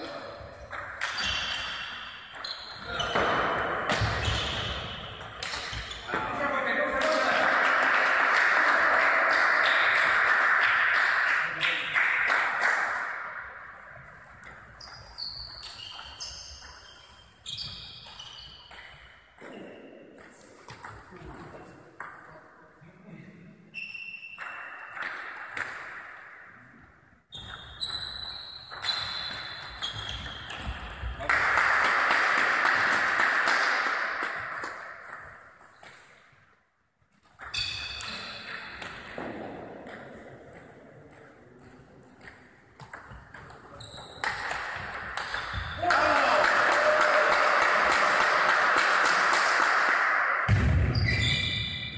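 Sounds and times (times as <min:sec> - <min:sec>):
echoing hall noise: 0:00.0 - 0:17.4, 0:18.6 - 0:36.3, 0:37.3 - 0:51.9.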